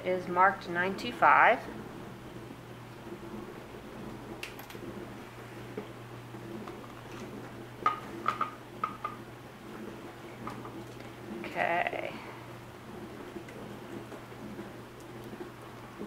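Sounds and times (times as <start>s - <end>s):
dishwasher humming: 0.0s - 16.0s.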